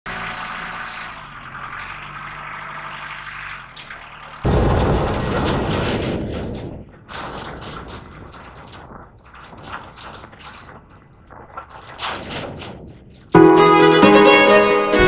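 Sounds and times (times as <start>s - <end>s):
tractor engine running: 0.1s - 15.0s
trailer rumbling and rattling: 0.1s - 15.0s.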